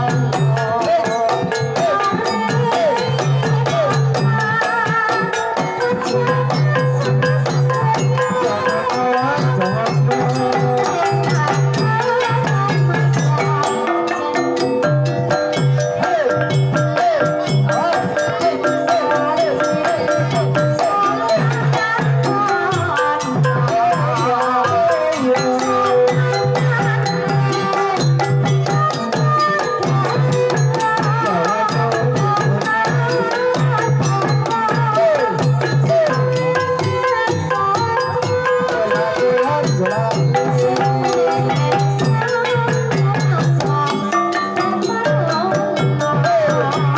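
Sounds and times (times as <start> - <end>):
bronze metallophones and gongs: 0.0 - 46.9
hand drum rhythm: 0.0 - 46.9
woman singing: 0.0 - 46.9.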